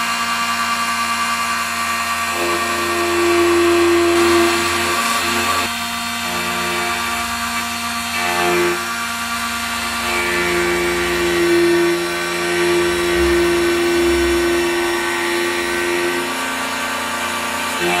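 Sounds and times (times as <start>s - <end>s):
key-cutting machine motor humming: 2.3s - 18.0s.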